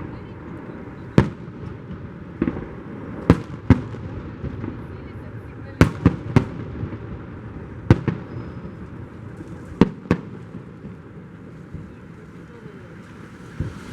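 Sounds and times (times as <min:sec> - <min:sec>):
fireworks bangs: 0:00.0 - 0:13.9.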